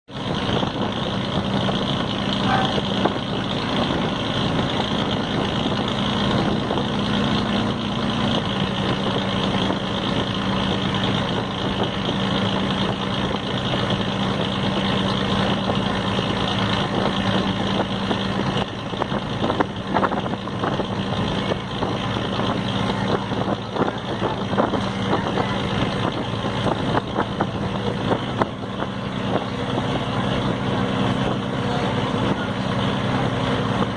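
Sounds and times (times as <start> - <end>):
boat engine drone: 0.0 - 33.9
constant rushing noise: 0.0 - 33.9.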